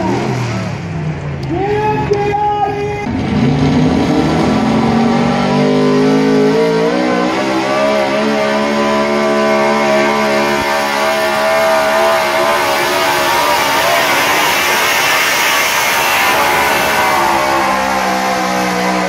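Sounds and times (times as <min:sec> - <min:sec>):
truck engine at high revs: 0:00.0 - 0:01.5, 0:03.1 - 0:19.0.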